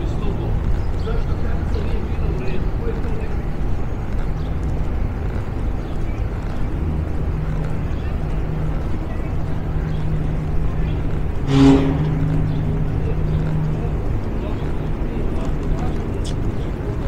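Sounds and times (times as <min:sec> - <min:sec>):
low hum of vehicle traffic: 0:00.0 - 0:17.0.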